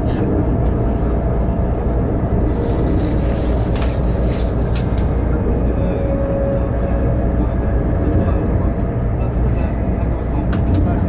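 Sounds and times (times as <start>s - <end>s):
electric train rumble inside carriage: 0.0s - 11.0s.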